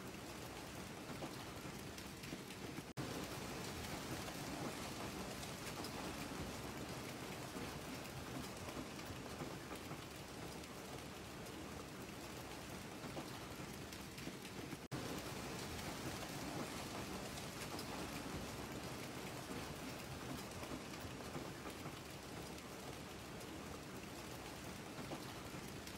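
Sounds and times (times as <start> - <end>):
hail and heavy rain pelting ground: 0.0 - 25.9.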